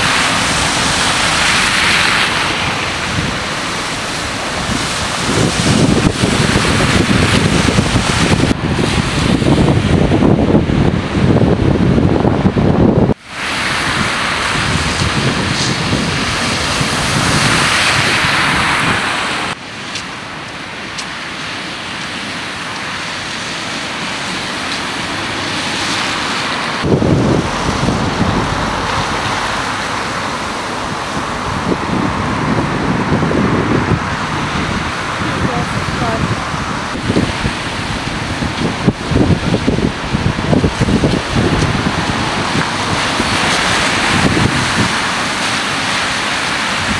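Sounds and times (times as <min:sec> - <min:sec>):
cars splashing through water: 0:00.0 - 0:46.9
wind buffeting microphone: 0:00.0 - 0:46.9.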